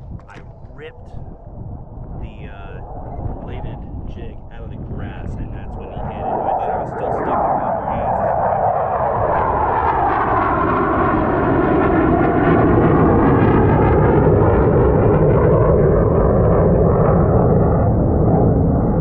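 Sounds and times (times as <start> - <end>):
propeller airplane passing overhead: 0.0 - 19.0.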